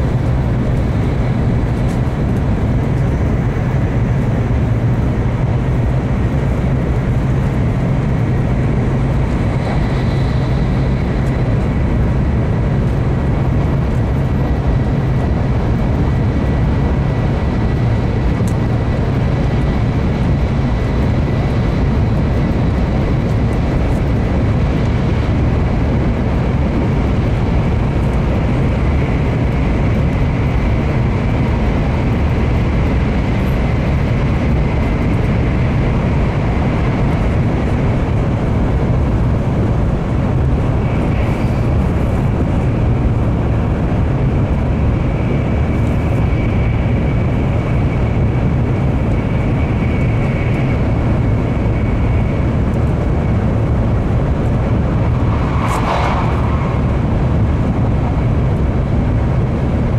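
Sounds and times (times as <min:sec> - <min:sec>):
train rumbling in tunnel: 0:00.0 - 0:59.9.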